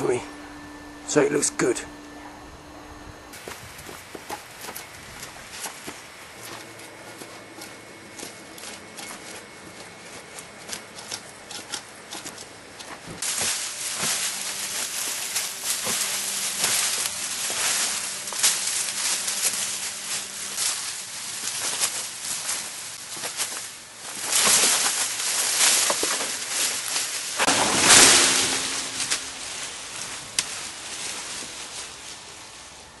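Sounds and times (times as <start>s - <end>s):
branches rustling and snapping: 3.3s - 32.8s.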